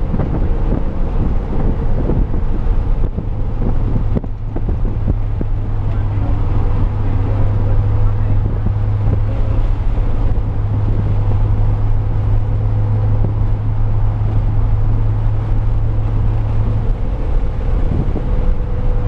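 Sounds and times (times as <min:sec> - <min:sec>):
car engine low drone: 0:00.0 - 0:19.0
road noise: 0:00.0 - 0:19.0.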